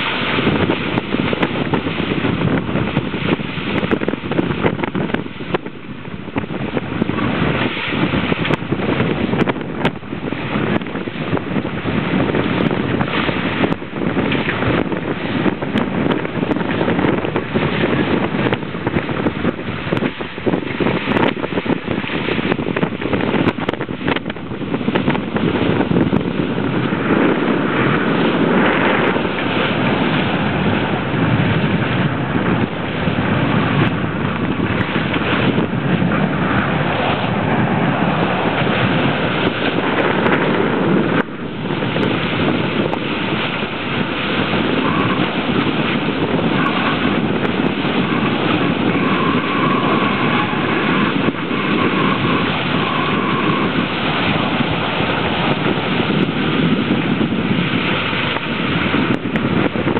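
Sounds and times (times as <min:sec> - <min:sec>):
water rushing along hulls: 0:00.0 - 0:59.9
wind buffeting microphone: 0:00.0 - 0:59.9.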